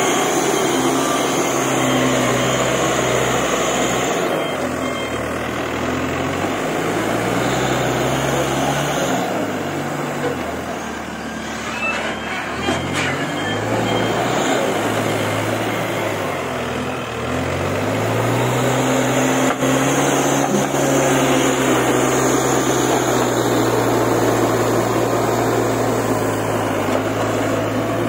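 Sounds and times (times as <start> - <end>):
backhoe diesel engine revving: 0.0 - 28.0.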